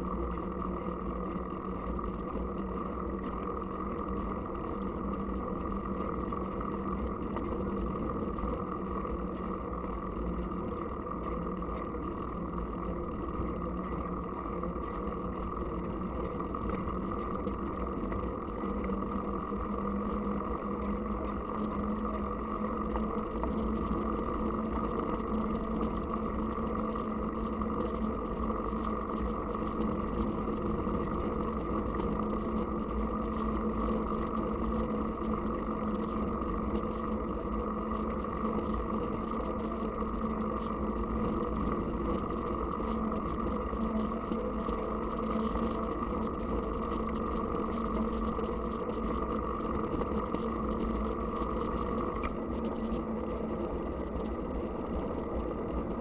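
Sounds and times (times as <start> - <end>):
bike tyres humming on asphalt: 0.0 - 56.0
low vibration rumble: 0.0 - 56.0.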